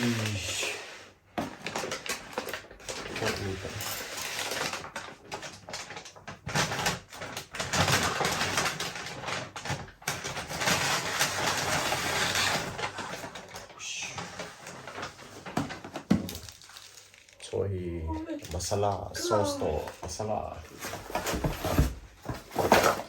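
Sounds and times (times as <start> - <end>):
rustling and crinkling: 0.0 - 17.5, 18.5 - 23.0.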